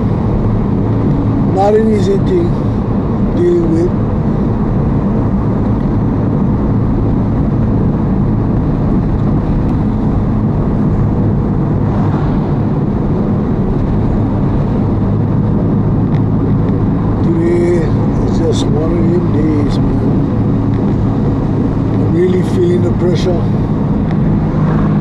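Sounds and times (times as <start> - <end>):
road noise: 0.0 - 25.0
vehicle engine hum: 0.0 - 25.0.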